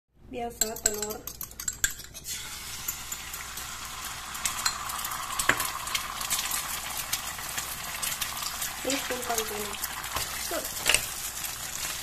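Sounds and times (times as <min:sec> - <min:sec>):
egg sizzling in hot oil: 0:01.9 - 0:12.0.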